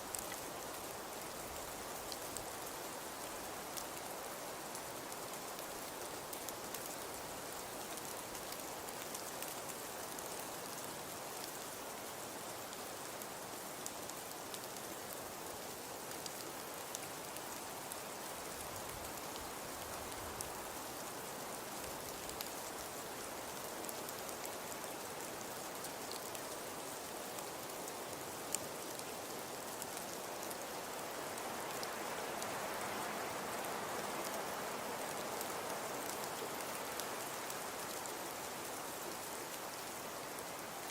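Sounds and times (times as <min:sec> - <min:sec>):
soft hiss of fire: 0:00.0 - 0:40.9.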